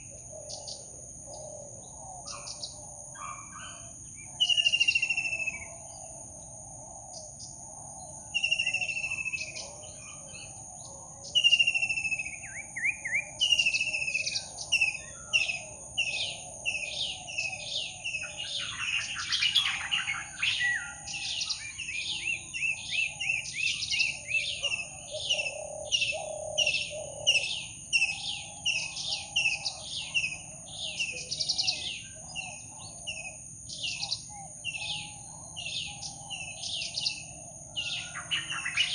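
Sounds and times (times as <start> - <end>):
birds calling: 0.0 - 38.9
high insect drone: 0.0 - 38.9.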